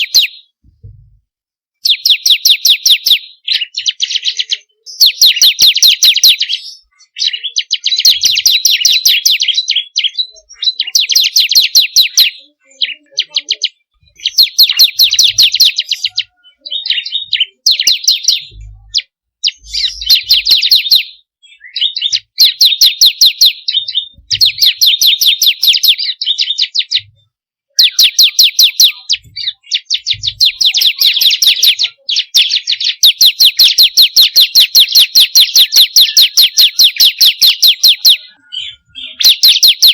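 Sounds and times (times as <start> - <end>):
bird singing rattling trills: 0.0 - 0.5, 1.8 - 27.2, 27.8 - 39.9.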